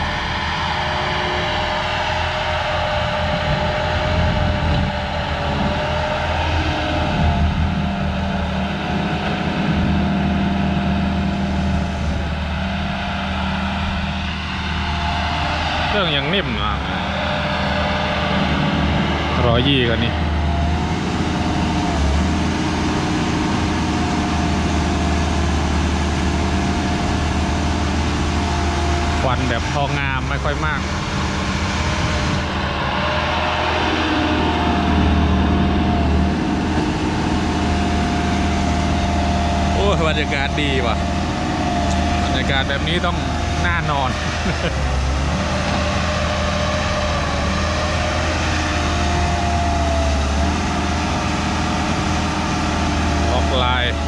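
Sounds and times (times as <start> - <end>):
excavator diesel engine hum: 0.0 - 54.0.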